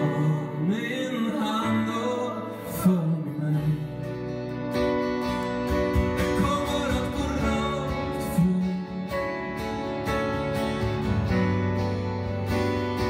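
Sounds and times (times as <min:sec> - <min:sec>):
live acoustic pop band: 0:00.0 - 0:13.0
strummed acoustic guitars: 0:00.0 - 0:13.0.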